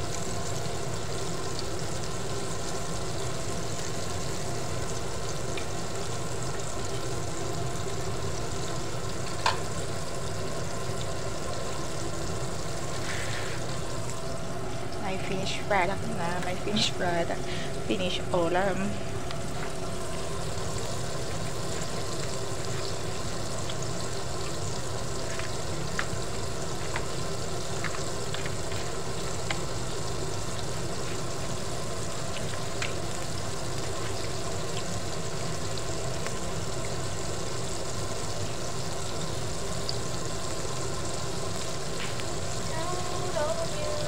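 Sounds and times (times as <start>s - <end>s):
chicken deep-frying in oil: 0.0s - 44.0s.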